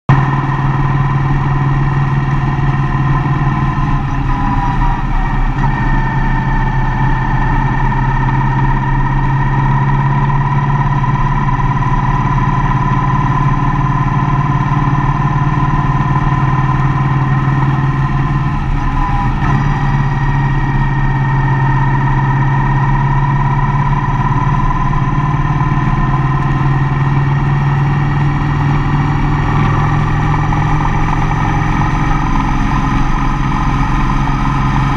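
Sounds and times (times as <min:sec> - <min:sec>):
engine whine: 0:00.1 - 0:34.9
road noise: 0:00.1 - 0:34.9
van engine drone: 0:00.1 - 0:34.9.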